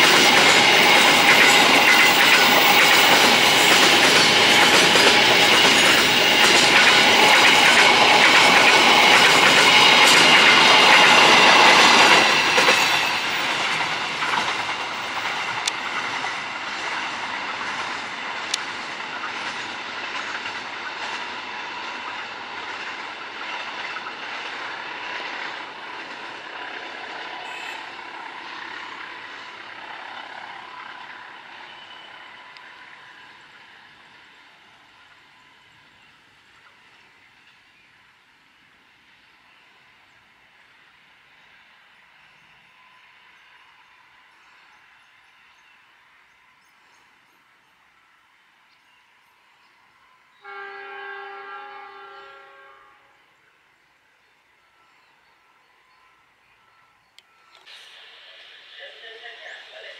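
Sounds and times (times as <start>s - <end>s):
train wagons rolling on rails: 0.0s - 59.9s.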